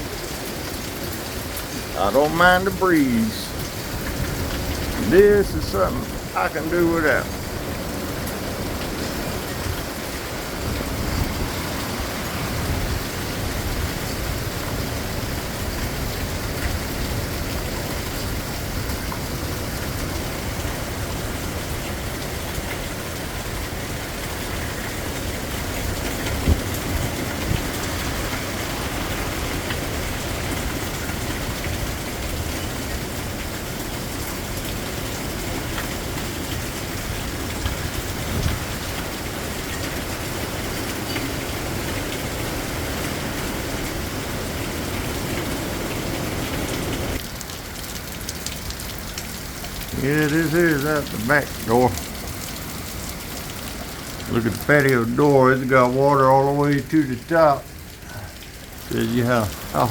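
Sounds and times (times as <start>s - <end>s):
storm wind and rain: 0.0s - 59.9s.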